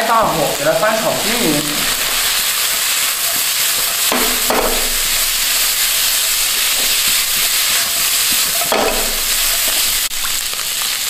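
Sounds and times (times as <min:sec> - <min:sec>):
food sizzling in a wok: 0:00.0 - 0:11.0
spatula stroking across pan: 0:00.6 - 0:10.6.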